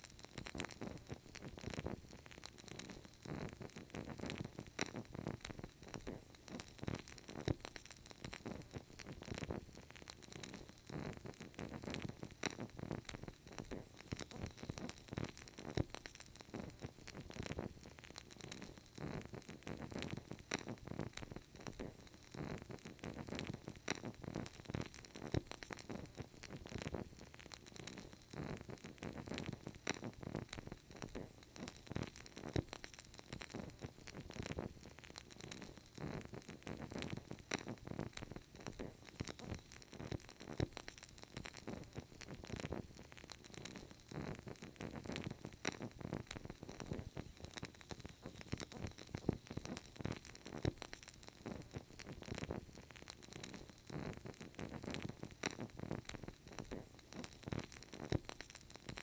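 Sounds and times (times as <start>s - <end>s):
candle crackling: 0.0s - 59.0s.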